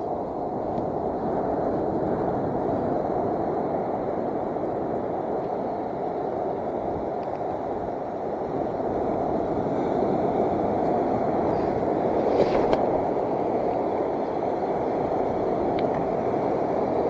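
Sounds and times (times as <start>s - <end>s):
surf breaking on a beach: 0.0s - 17.0s
wind on the microphone: 0.0s - 17.0s.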